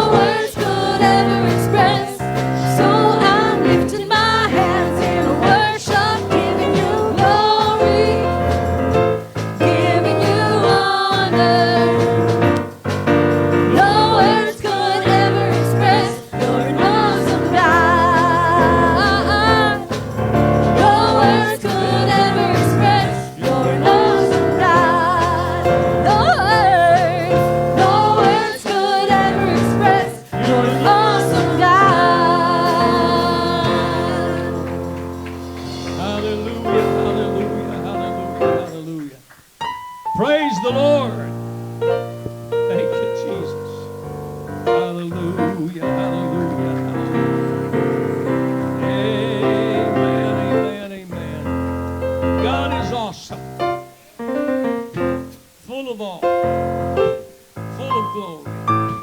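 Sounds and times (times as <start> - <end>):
person singing with vibrato: 0.0 - 41.4, 44.7 - 53.6.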